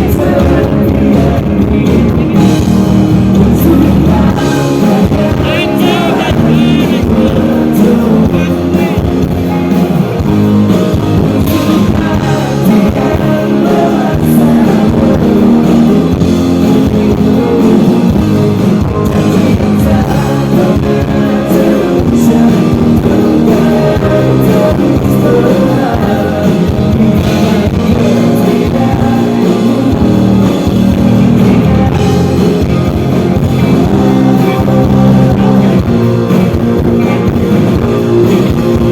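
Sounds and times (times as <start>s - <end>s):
person singing: 0.0s - 9.2s, 11.3s - 38.9s
live pop-rock band: 0.0s - 38.9s.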